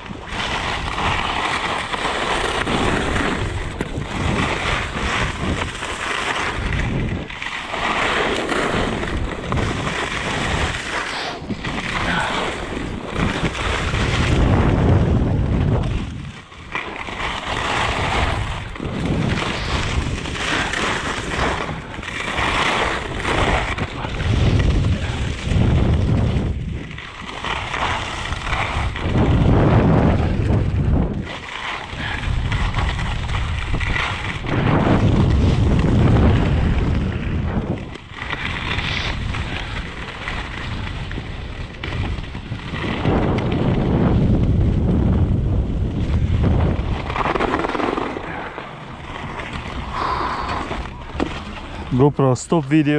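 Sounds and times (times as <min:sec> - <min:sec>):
skis scraping over snow: 0:00.0 - 0:52.9
wind buffeting microphone: 0:00.0 - 0:52.9.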